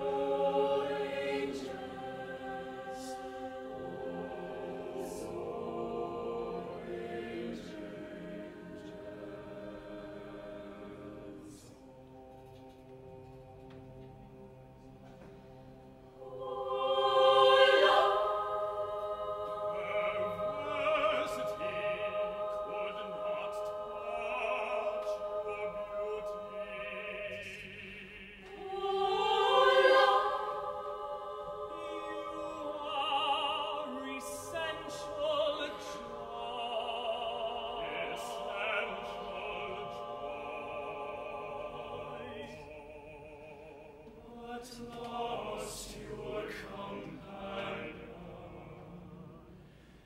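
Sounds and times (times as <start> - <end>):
choir singing held chords: 0.0 - 50.0.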